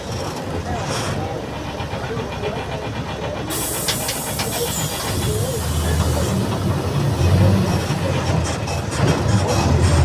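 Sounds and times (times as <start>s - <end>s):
bus diesel engine rumbling: 0.0s - 10.0s.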